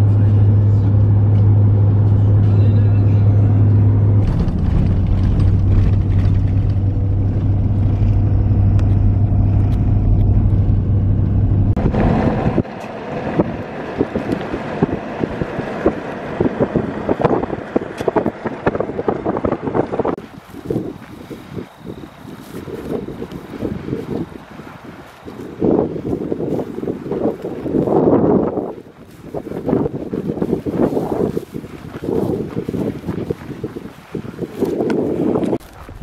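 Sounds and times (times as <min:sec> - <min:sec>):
road noise droning inside vehicle: 0:00.0 - 0:36.0
tyres crunching over gravel: 0:04.2 - 0:10.9, 0:12.0 - 0:36.0.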